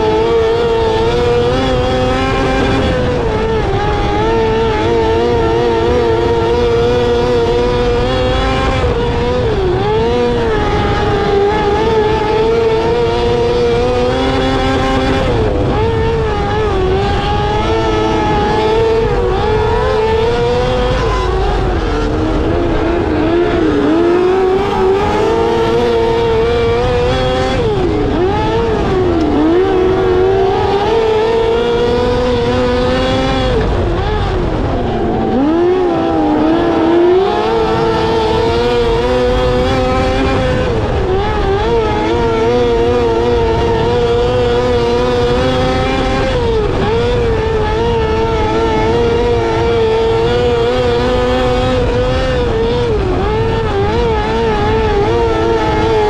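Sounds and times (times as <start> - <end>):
race car engines revving high: 0.0 - 56.0.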